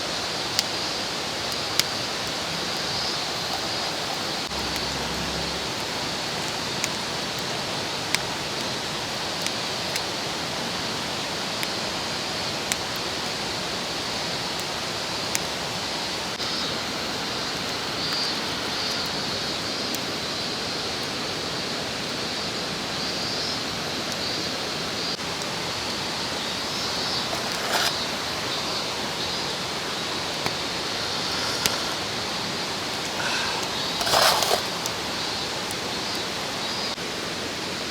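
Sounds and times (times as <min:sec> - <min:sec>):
mountain stream rushing: 0:00.0 - 0:20.4, 0:23.7 - 0:37.9.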